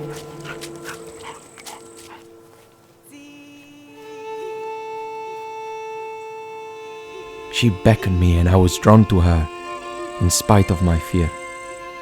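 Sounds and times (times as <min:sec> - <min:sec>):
bowed string chords: 0:00.0 - 0:12.0.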